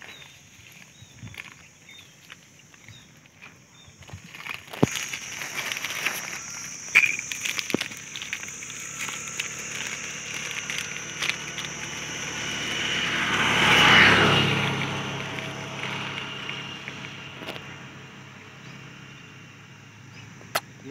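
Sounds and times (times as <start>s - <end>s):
dry leaves crackling: 0.0s - 18.3s
steady high-pitched hiss: 0.0s - 20.9s.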